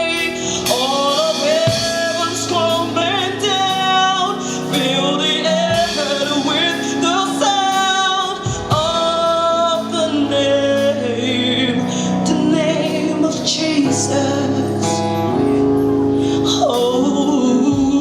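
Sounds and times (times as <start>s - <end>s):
women singing gospel song: 0.0s - 14.8s
instrumental accompaniment: 0.0s - 18.0s.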